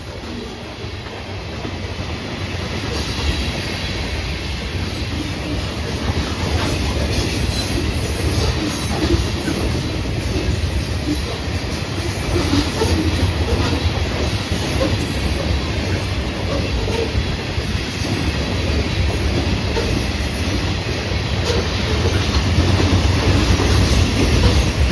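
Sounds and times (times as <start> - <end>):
freight train wheels rumbling on rails: 0.0 - 24.9.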